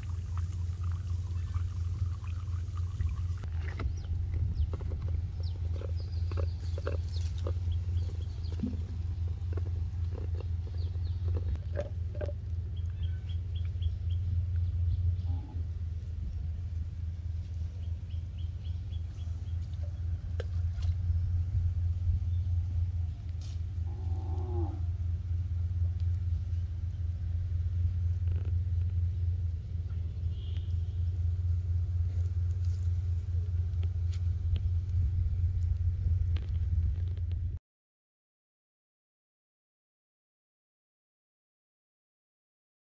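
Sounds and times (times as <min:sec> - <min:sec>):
low rumble: 0:00.0 - 0:37.6.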